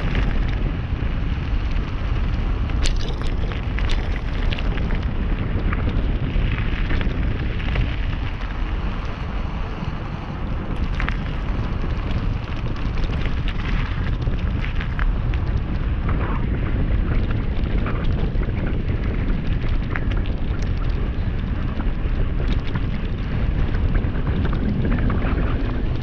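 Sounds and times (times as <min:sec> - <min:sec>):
gravel clicks: 0:00.0 - 0:26.0
tyres rumbling on asphalt: 0:00.0 - 0:26.0
wind buffeting microphone: 0:00.0 - 0:26.0.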